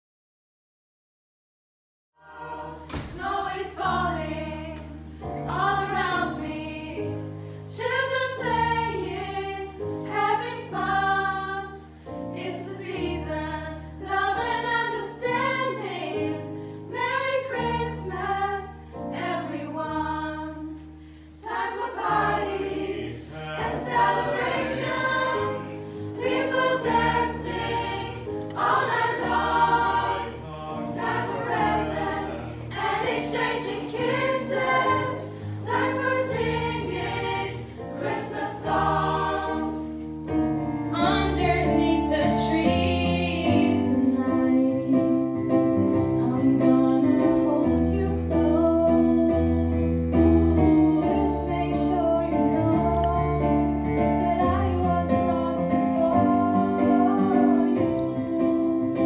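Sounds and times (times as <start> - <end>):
choir singing in harmony: 2.2 - 59.0.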